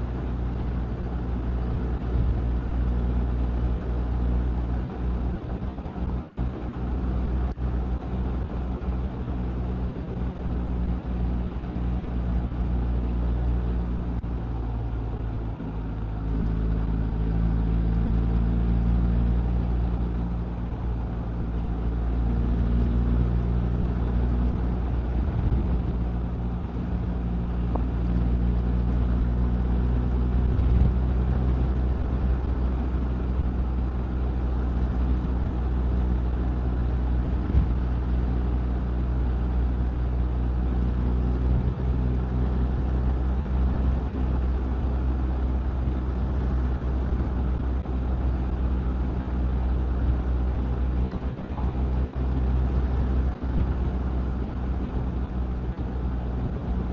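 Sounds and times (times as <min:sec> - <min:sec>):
motorcycle engine drone: 0:00.0 - 0:56.9
wind and road rush: 0:00.0 - 0:56.9.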